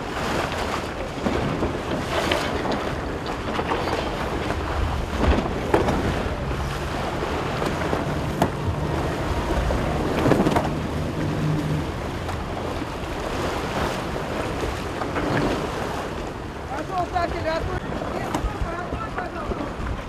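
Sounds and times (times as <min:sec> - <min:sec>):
water splashing along hull: 0:00.0 - 0:20.0
wind buffeting microphone: 0:00.0 - 0:20.0.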